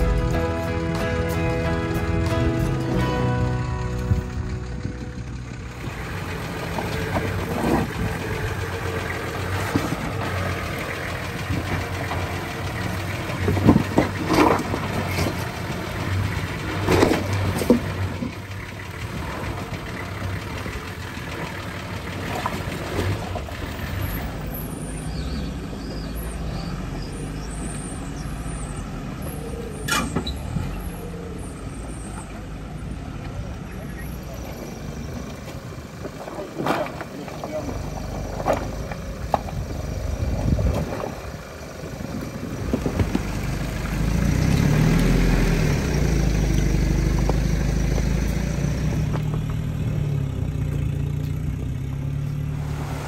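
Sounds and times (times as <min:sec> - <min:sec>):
vehicle engine rumble: 0:00.0 - 0:53.0
vehicle jolting over bumps: 0:00.0 - 0:53.0.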